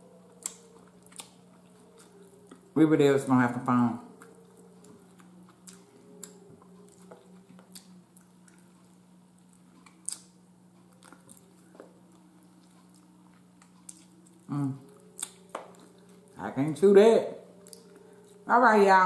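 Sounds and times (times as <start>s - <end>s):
person chewing: 0.0s - 2.8s, 4.1s - 16.4s, 17.6s - 18.4s
low hum: 0.0s - 19.0s.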